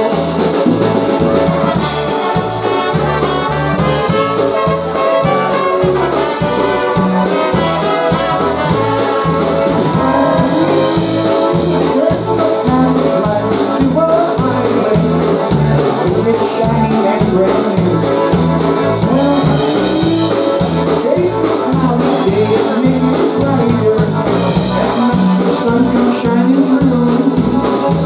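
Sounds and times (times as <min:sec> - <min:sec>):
pulsing bass beat: 0:00.0 - 0:25.0
polka band playing: 0:00.0 - 0:28.0.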